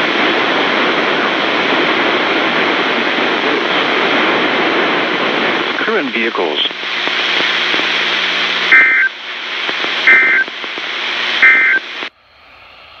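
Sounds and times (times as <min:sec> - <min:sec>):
radio hiss: 0:00.0 - 0:12.1.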